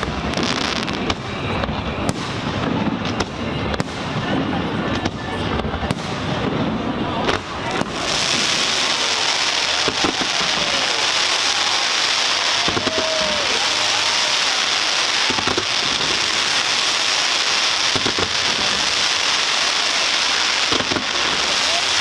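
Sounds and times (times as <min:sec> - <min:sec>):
fireworks bangs: 0:00.0 - 0:22.0
fireworks crackling hiss: 0:00.0 - 0:22.0
fireworks whistles: 0:00.0 - 0:22.0.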